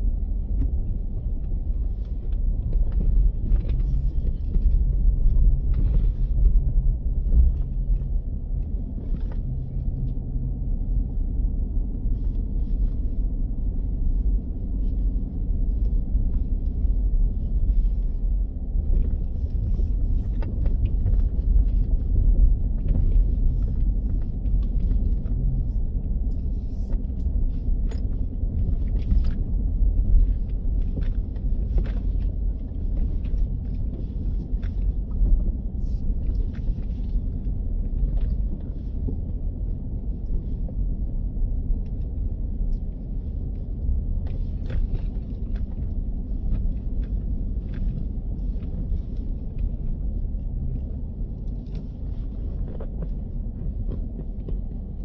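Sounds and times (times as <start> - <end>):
vehicle rumbling on dirt road: 0.0 - 55.0.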